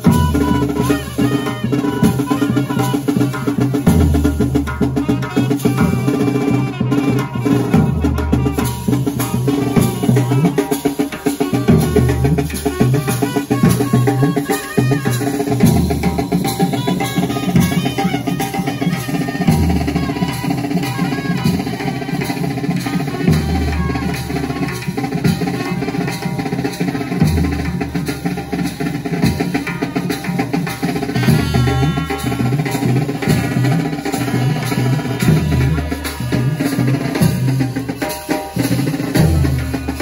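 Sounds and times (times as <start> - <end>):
drum and percussion beats: 0.0 - 40.0.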